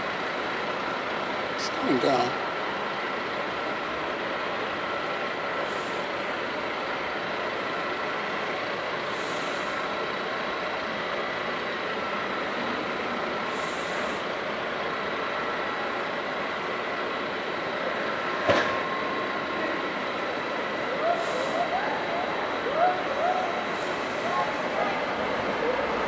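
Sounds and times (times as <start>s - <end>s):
faint steady whine: 0.0s - 26.0s
fire engine pumps droning: 0.0s - 26.0s.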